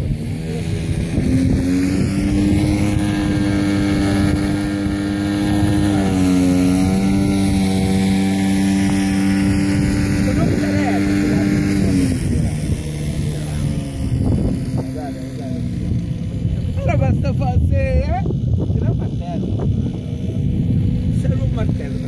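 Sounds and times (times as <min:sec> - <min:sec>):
model aircraft motors droning: 0:00.0 - 0:22.0.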